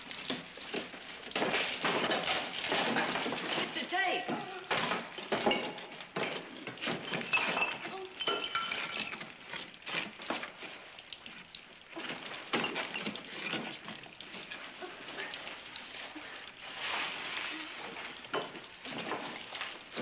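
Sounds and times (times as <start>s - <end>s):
boards and rubble clattering: 0.0s - 10.6s, 11.4s - 15.7s, 18.0s - 20.0s.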